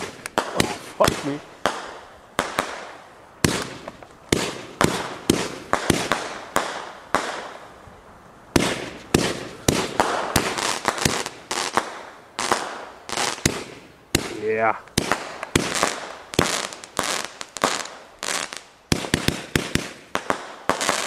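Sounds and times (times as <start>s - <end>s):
fireworks bangs with echo: 0.0s - 7.7s, 8.5s - 21.0s.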